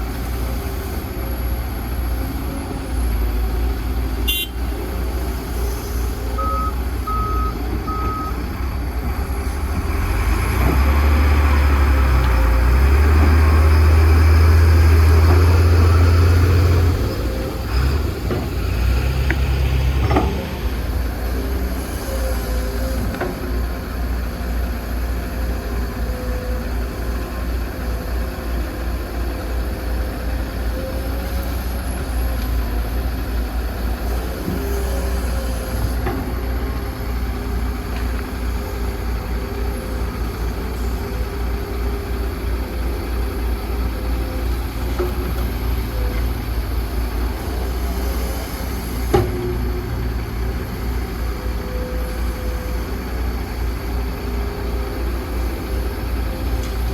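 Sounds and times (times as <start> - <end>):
excavator diesel engine rumbling: 0.0 - 56.9.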